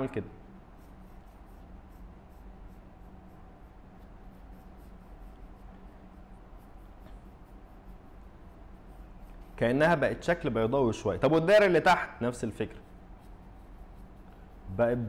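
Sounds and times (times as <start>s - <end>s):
pencil scratching on paper: 0.6s - 15.0s.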